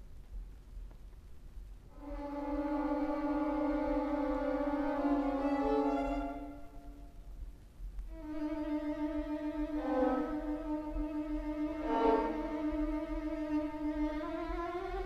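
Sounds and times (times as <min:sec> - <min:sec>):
orchestral strings sustained notes: 0:01.9 - 0:07.3, 0:08.1 - 0:15.0.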